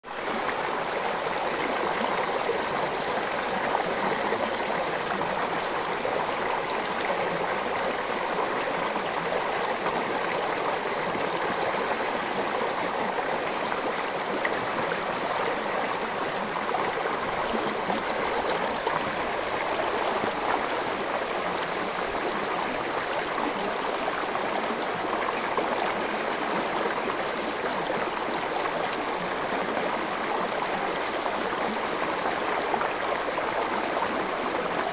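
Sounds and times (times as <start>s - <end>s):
stream gurgling over rocks: 0.1s - 34.9s.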